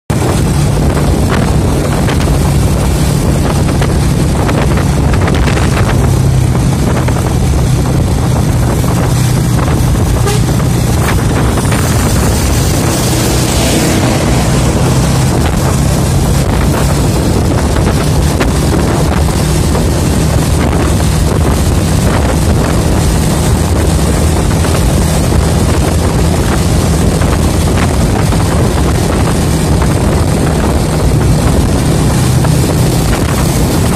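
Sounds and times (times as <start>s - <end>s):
low engine drone: 0.1s - 33.9s
wind rushing over microphone: 0.1s - 33.9s.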